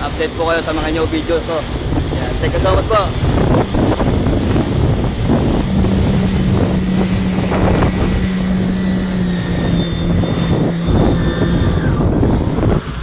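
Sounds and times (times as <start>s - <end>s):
jet ski engine drone: 0.0s - 13.0s
water spray rushing: 0.0s - 13.0s.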